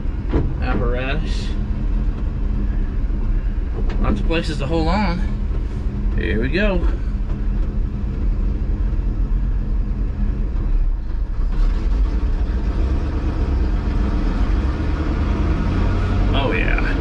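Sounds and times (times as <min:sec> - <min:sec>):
truck engine pulling away: 0:00.0 - 0:17.0.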